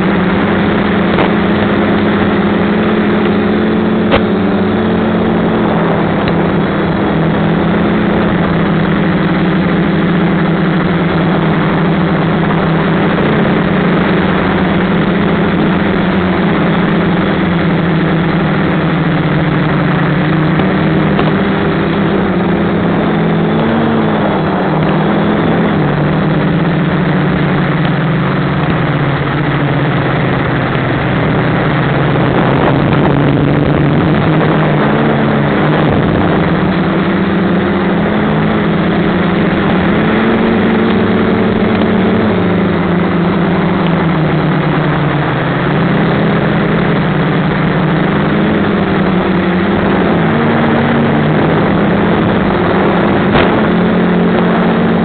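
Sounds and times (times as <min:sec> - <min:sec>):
quadcopter propellers buzzing: 0:00.0 - 0:55.0.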